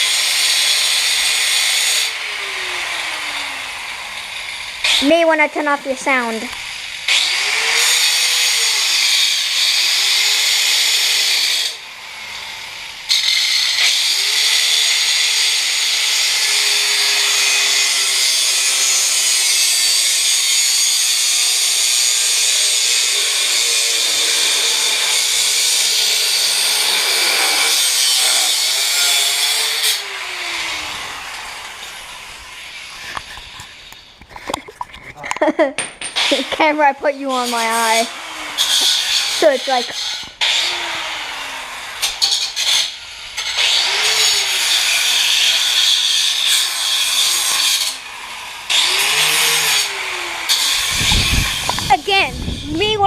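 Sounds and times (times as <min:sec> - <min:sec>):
power tool cutting steel: 0:00.0 - 0:53.0.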